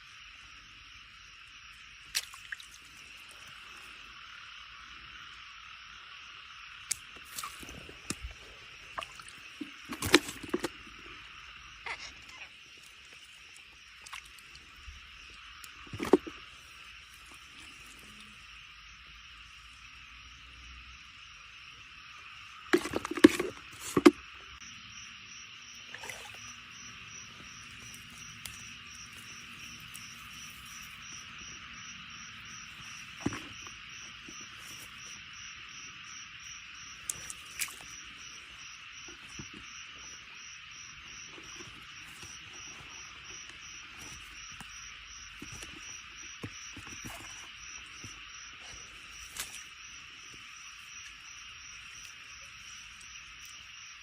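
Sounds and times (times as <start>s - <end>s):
high pulsing insect call: 0.0s - 54.0s
insects chirping: 0.0s - 54.0s.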